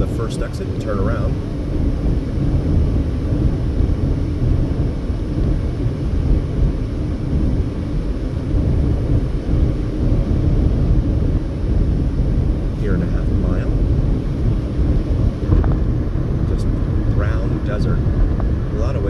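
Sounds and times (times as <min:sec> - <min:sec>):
car driving at highway speed: 0:00.0 - 0:19.0.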